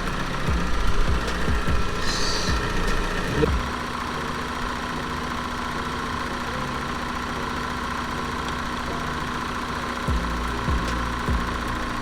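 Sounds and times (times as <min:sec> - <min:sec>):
car engine idling: 0:00.0 - 0:12.0
plastic parts vibrating: 0:00.0 - 0:12.0.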